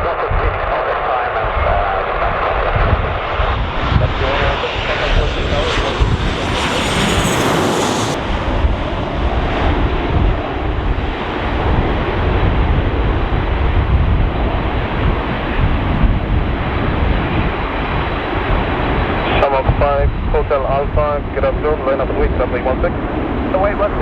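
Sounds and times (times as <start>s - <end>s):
jet engines roaring: 0.0s - 24.0s
wind buffeting microphone: 1.4s - 24.0s.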